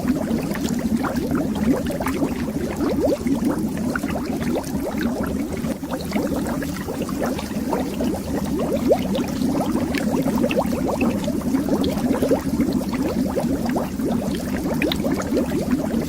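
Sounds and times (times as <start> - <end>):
underwater bubbling: 0.0 - 16.0.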